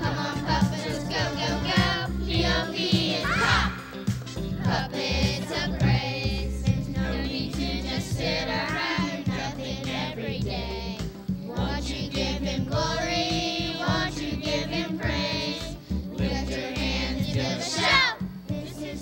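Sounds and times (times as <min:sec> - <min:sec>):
group singing: 0:00.0 - 0:19.0
instrumental backing with bass: 0:00.0 - 0:19.0.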